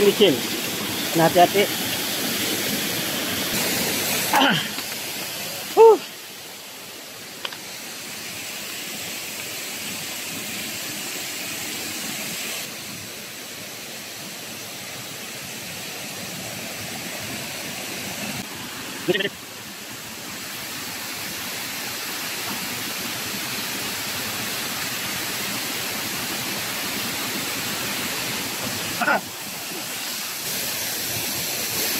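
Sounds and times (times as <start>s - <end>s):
rushing waterfall: 0.0s - 31.9s.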